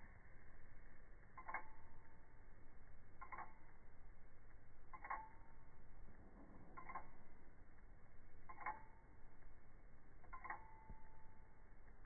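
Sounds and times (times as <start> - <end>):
pocket watch ticking slowed down: 0.0 - 12.0.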